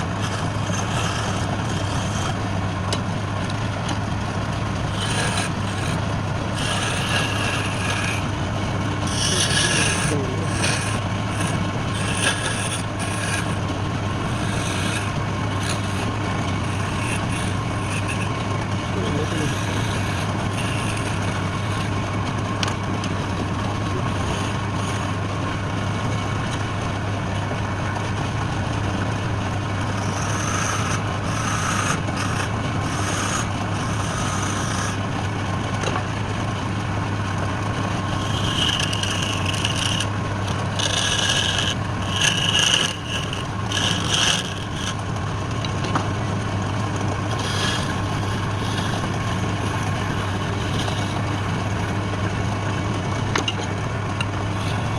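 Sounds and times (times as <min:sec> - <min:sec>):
turning tool scraping wood: 0:00.0 - 0:25.6, 0:27.3 - 0:36.2, 0:37.6 - 0:54.9
wood lathe motor hum: 0:00.0 - 0:54.9.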